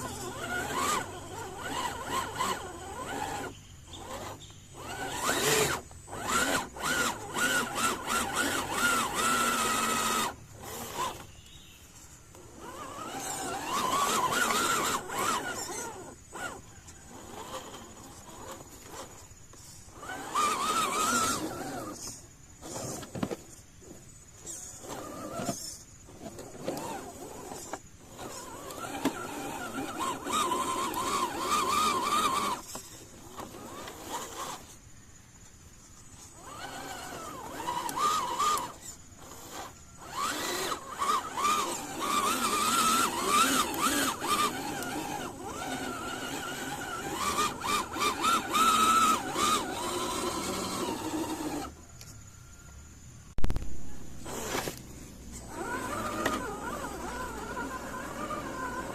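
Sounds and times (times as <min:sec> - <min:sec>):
electric motor whining: 0:00.0 - 0:34.9, 0:35.9 - 0:52.2, 0:53.4 - 0:58.9.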